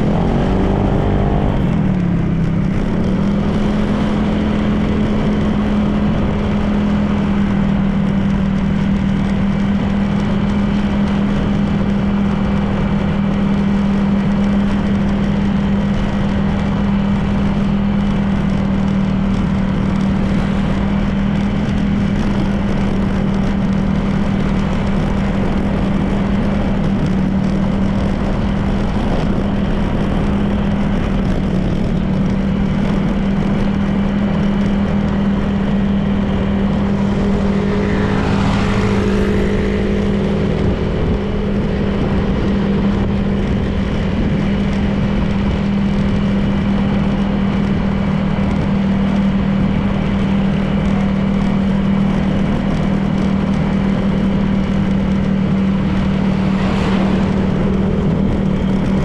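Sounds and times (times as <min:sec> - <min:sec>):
passing vehicle engine: 0:00.0 - 0:59.0
road and wind noise: 0:00.0 - 0:59.0
scooter engine humming: 0:00.0 - 0:59.0.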